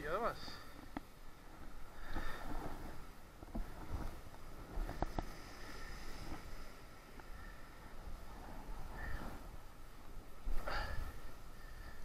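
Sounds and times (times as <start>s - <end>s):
wind rumble on microphone: 0.7s - 12.0s.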